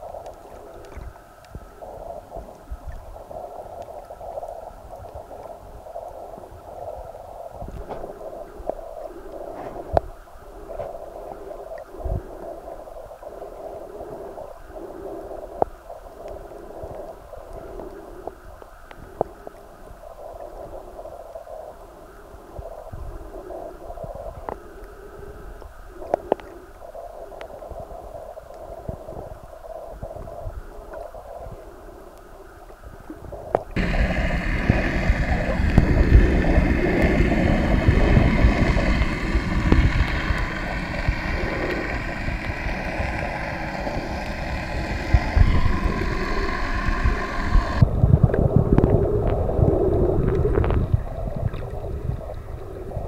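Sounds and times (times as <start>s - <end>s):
muffled underwater water noise: 0.0s - 53.0s.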